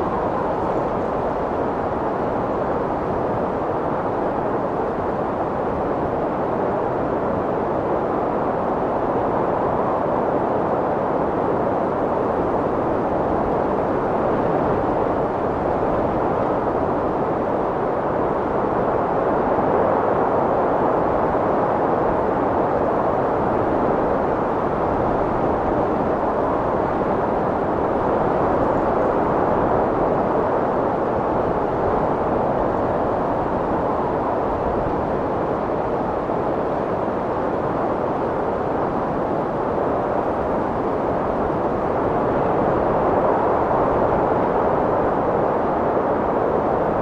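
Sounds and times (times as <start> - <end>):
strong wind blowing: 0.0 - 47.0.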